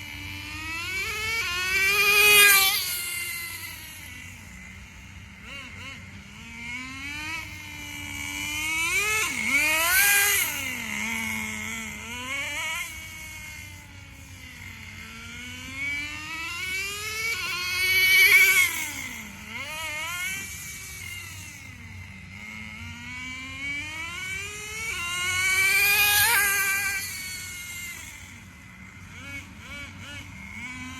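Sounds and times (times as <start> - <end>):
rc car nitro engine revving: 0.0 - 30.9.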